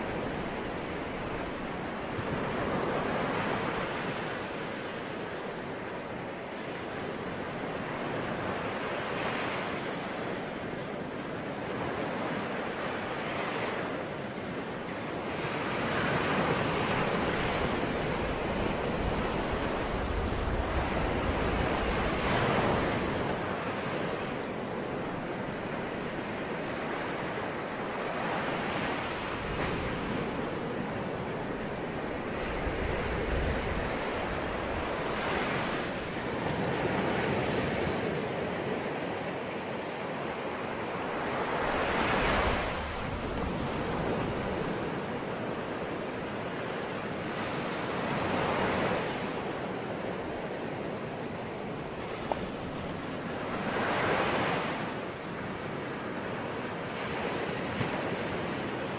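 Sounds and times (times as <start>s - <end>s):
sea waves breaking on shore: 0.0s - 58.9s
wind: 0.0s - 58.9s.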